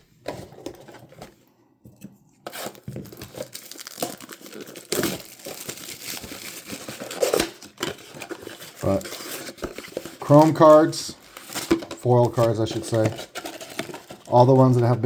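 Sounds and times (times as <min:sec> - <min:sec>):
plastic wrapping crinkling and tearing: 0:02.5 - 0:15.0.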